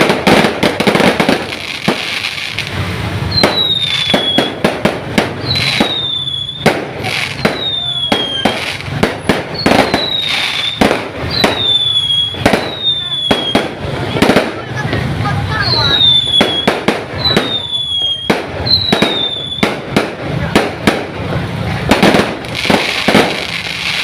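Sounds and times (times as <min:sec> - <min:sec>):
firecrackers cracking and banging: 0:00.0 - 0:24.0.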